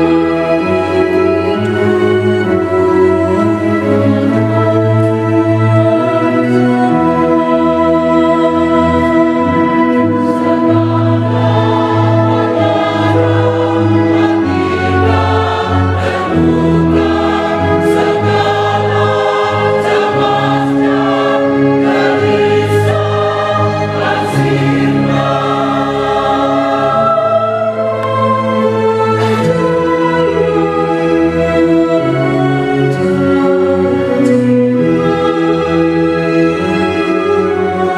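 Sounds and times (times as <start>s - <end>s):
choir singing a hymn: 0.0s - 37.9s.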